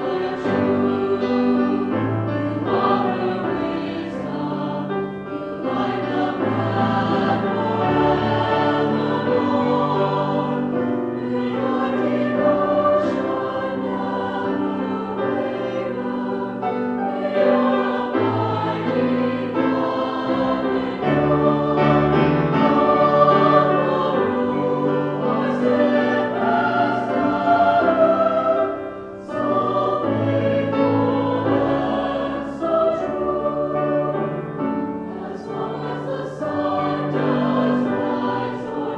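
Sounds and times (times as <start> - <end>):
grand piano accompaniment: 0.0 - 38.9
mixed choir singing: 0.0 - 38.9.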